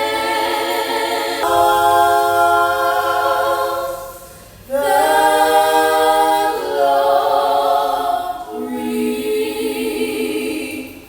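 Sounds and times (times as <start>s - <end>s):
voices singing a worship song: 0.0s - 11.0s.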